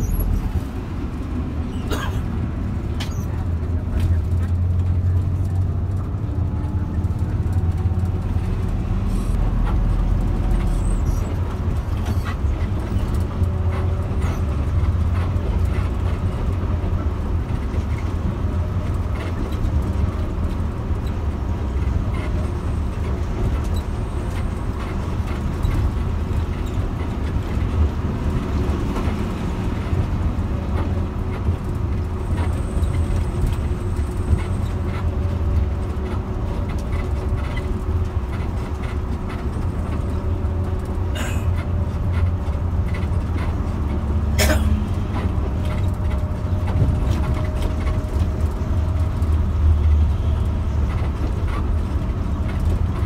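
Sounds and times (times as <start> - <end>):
bus engine and tyre rumble: 0.0 - 53.0.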